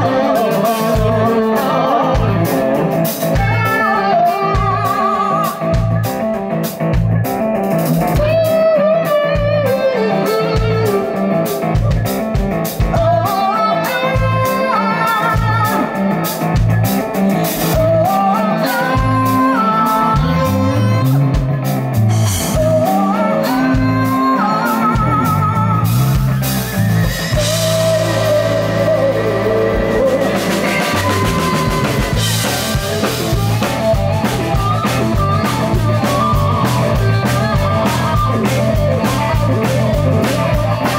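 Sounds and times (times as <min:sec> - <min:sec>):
lead guitar melody bending: 0:00.0 - 0:40.9
live rock band playing: 0:00.0 - 0:40.9.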